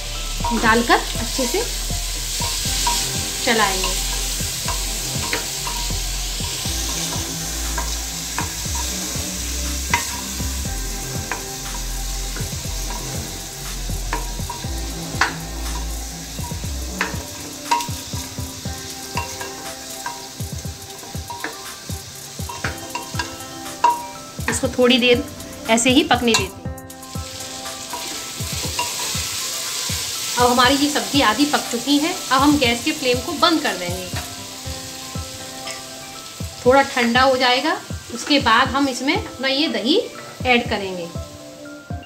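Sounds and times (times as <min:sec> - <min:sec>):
vegetables sizzling in a pot: 0:00.0 - 0:42.0.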